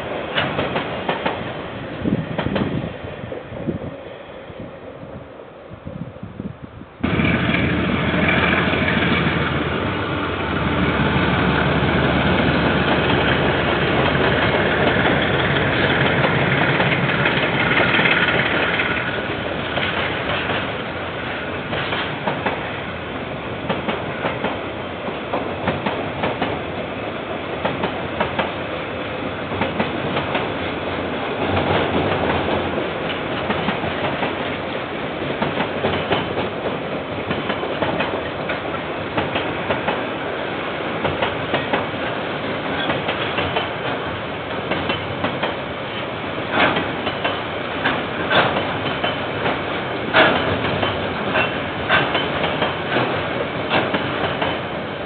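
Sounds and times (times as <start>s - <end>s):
wheels clickety-clack over rail joints: 0.0s - 3.6s, 7.1s - 22.9s, 23.6s - 54.9s
freight train rumbling past: 0.0s - 55.0s.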